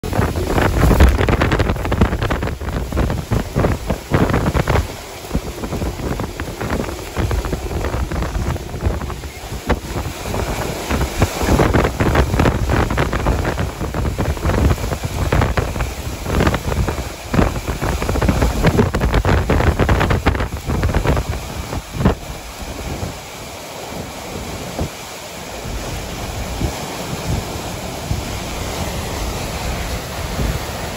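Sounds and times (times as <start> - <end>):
strong wind gusting: 0.0 - 30.9
wind buffeting microphone: 0.0 - 30.9.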